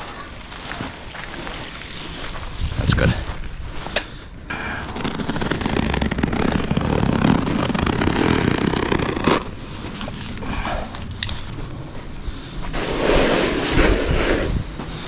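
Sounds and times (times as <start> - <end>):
synthetic turf crackling scrape: 0.0 - 10.4, 12.6 - 15.0.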